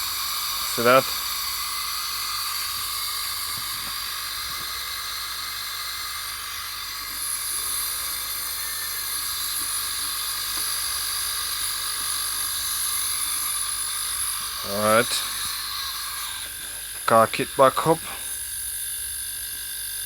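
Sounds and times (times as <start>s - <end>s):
air hissing: 0.0s - 19.1s
air compressor whining: 0.0s - 20.0s.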